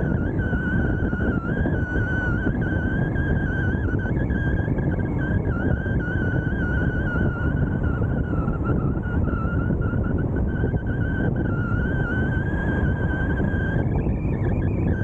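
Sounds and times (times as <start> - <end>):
high wavering whine: 0.0 - 15.0
road and wind noise: 0.0 - 15.0.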